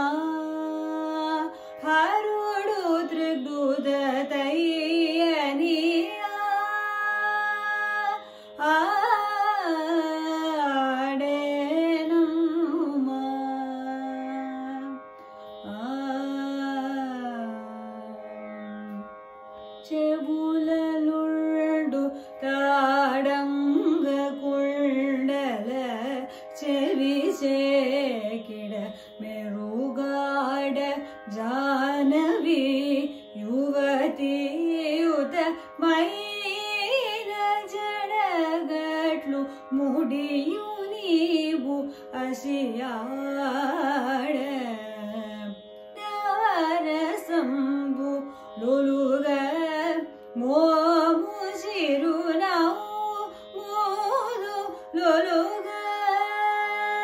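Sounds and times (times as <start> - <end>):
woman singing: 0.0 - 19.1, 19.8 - 57.0.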